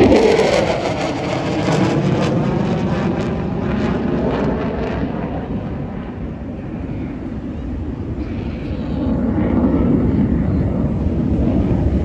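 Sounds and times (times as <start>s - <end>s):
airplane flying past: 0.0s - 12.0s.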